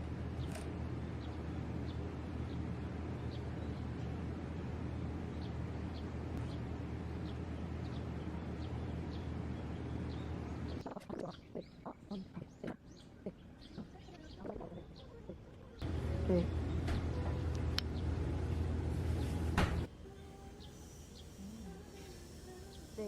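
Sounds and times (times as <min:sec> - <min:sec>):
small birds chirping: 0:00.2 - 0:18.2, 0:19.0 - 0:23.0.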